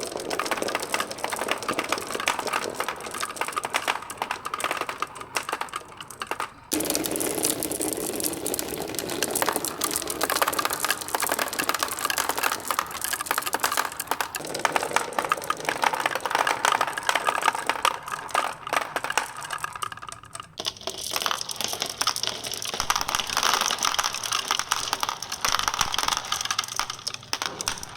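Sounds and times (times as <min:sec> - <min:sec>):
marbles rolling down wooden run: 0:00.0 - 0:27.9.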